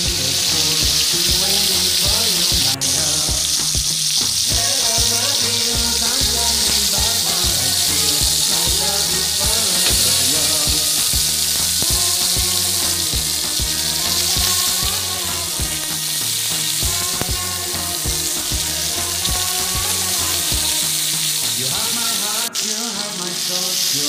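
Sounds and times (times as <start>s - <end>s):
background music with a beat: 0.0s - 22.9s
patties sizzling in oil: 0.0s - 24.0s.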